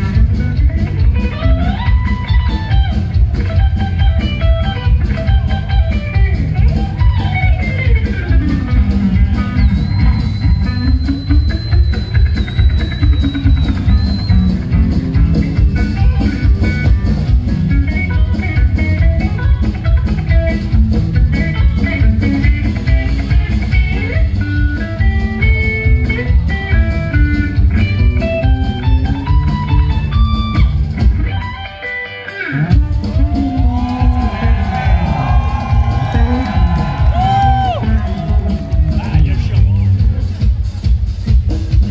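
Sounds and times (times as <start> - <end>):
electric guitar solo: 0.0 - 39.2
rock drum kit: 0.0 - 41.9.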